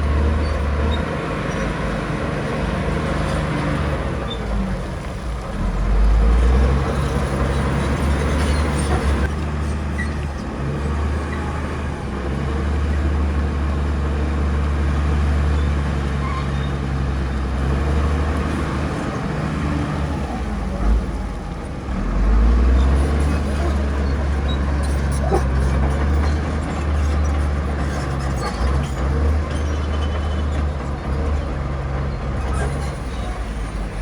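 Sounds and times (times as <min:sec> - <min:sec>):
diesel machinery engine drone: 0:00.0 - 0:34.0.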